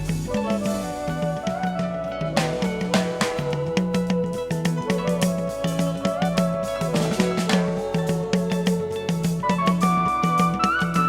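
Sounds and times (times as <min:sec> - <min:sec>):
drum hits: 0:00.0 - 0:11.0
instrumental band music: 0:00.0 - 0:11.0.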